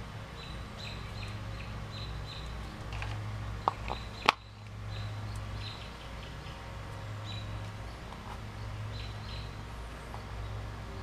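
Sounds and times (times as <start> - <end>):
birds chirping: 0.0 - 11.0
steady low hum: 0.0 - 11.0.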